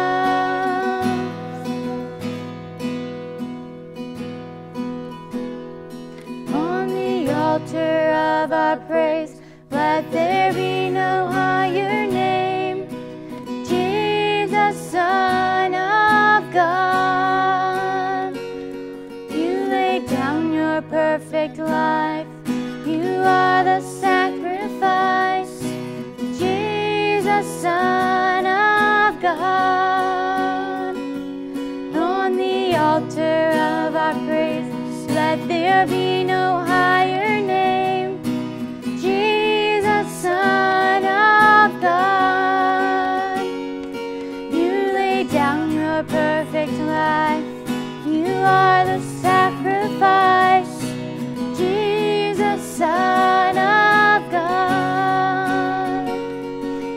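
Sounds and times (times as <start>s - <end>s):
woman singing worship song: 0.0s - 2.6s, 6.5s - 18.4s, 19.3s - 31.2s, 31.9s - 38.2s, 38.9s - 56.3s
acoustic guitar: 0.0s - 56.9s.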